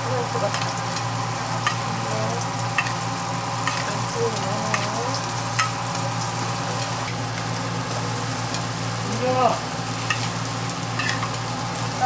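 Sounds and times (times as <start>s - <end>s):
pancakes sizzling in oil: 0.0s - 12.0s.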